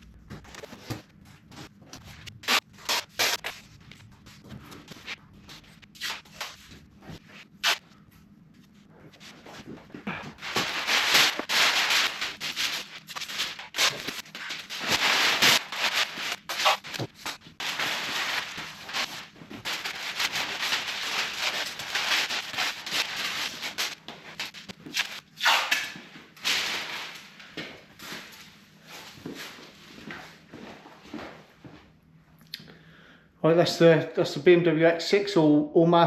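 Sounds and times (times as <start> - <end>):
masking materials rustling and crinkling: 0.0 - 32.0.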